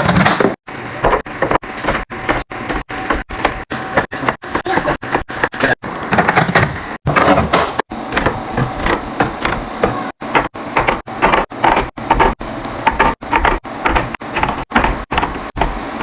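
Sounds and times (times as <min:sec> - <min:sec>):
food containers clattering: 0:00.0 - 0:15.1.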